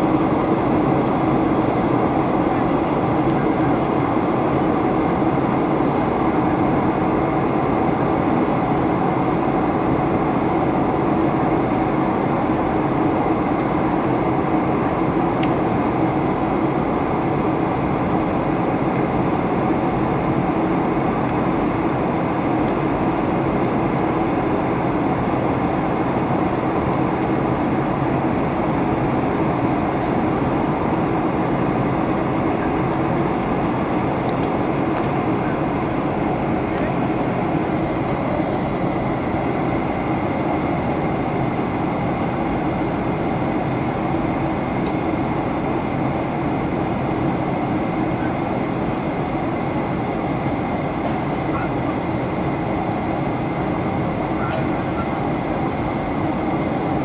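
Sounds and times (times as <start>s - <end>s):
jet airliner cabin noise: 0.0s - 57.0s.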